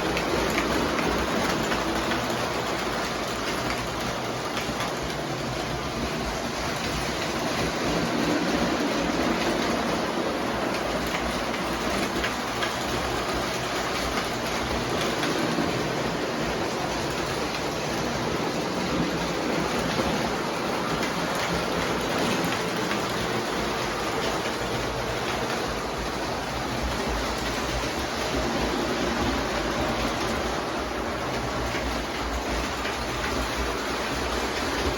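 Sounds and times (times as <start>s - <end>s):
model train wheels rolling: 0.0s - 34.9s.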